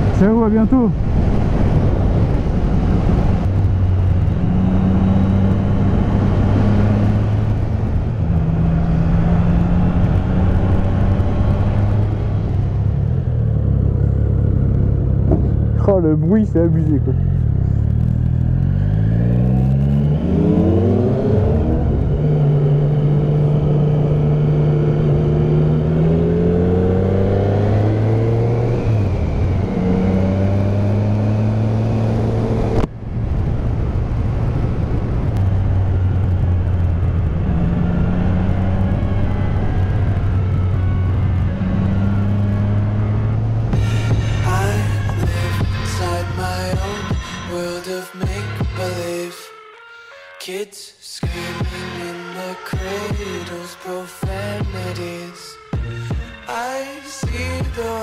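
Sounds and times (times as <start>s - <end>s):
wind noise: 0.0s - 47.3s
motorcycle engine revving: 1.0s - 47.5s.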